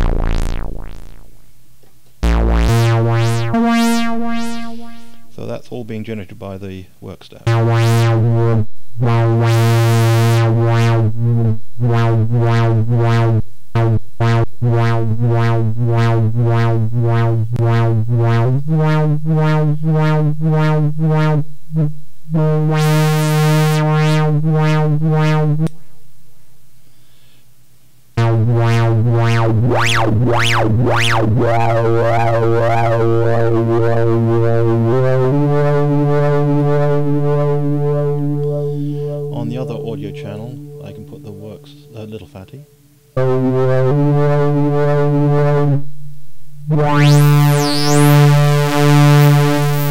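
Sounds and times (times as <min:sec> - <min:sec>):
analog synthesizer low note: 0:00.0 - 0:06.6, 0:07.4 - 0:26.1, 0:28.2 - 0:49.9.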